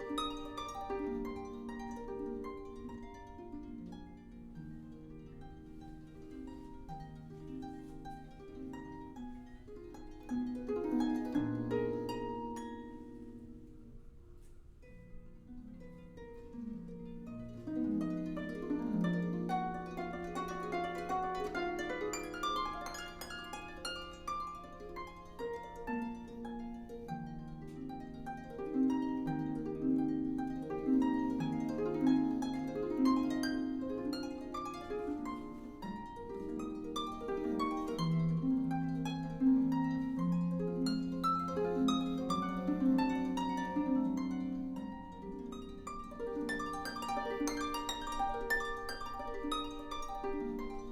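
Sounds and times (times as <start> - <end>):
solo harp music: 0.0 - 50.9.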